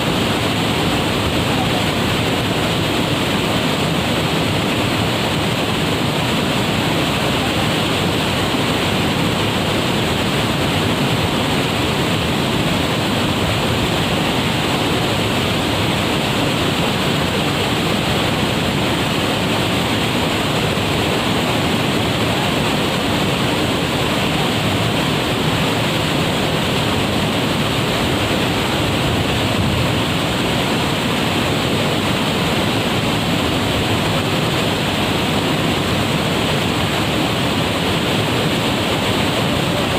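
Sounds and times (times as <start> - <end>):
waterfall crashing into pool: 0.0 - 39.9.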